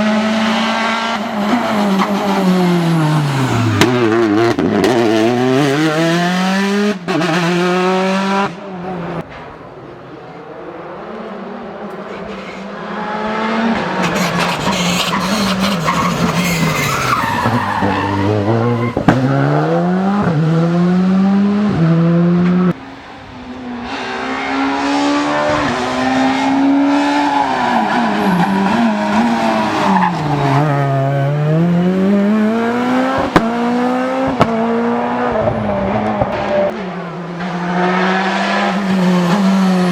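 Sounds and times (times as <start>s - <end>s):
rally cars revving past: 0.0s - 9.3s, 10.2s - 39.9s.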